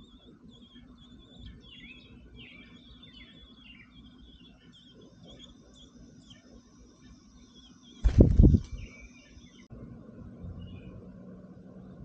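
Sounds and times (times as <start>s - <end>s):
nestlings chirping: 0.0s - 9.7s.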